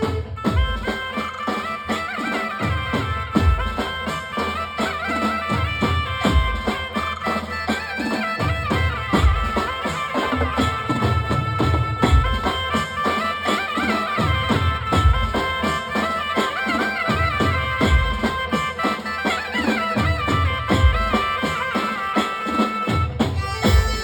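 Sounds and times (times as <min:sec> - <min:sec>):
fast drum beat: 0:00.0 - 0:24.0
reedy wind instrument melody: 0:00.0 - 0:24.0.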